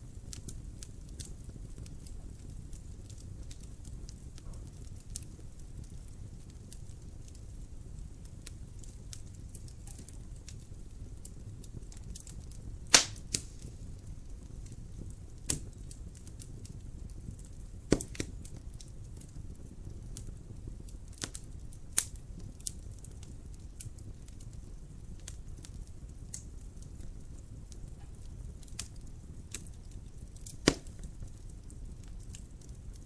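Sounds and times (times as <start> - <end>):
fire crackling in a fireplace: 0.0 - 33.0.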